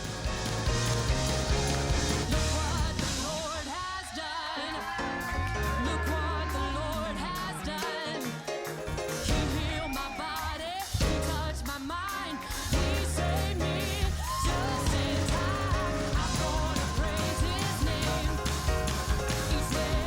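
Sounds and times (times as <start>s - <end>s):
band with bass and drums: 0.0s - 4.1s, 4.8s - 7.8s, 8.6s - 20.0s.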